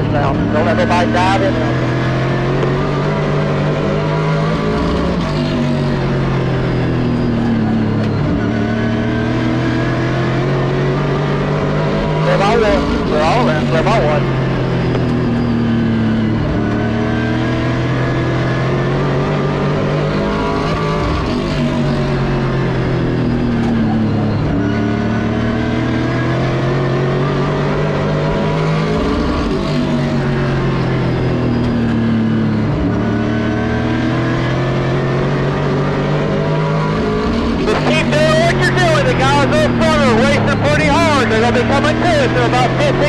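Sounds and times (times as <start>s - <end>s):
race car engine revving: 0.0s - 43.0s.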